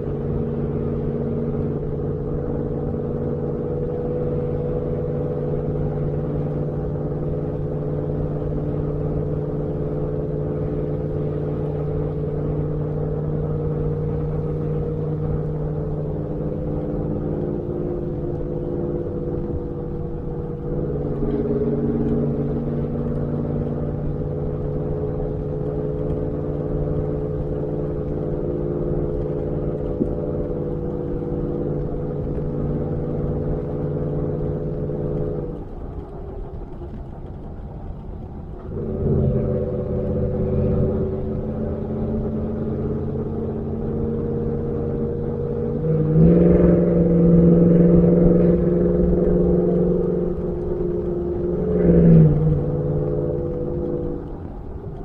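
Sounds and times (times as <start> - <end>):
truck exhaust rumbling: 0.0 - 55.0.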